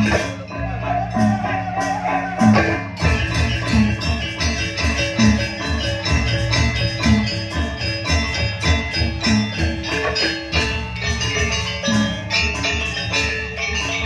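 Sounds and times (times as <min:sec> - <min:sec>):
metallophones ringing: 0:00.0 - 0:14.0.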